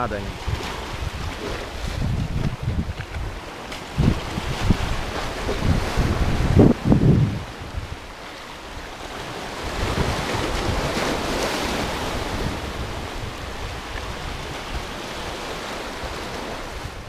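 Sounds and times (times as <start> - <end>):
waves washing over rocks: 0.0 - 17.0
wind buffeting microphone: 0.0 - 17.0.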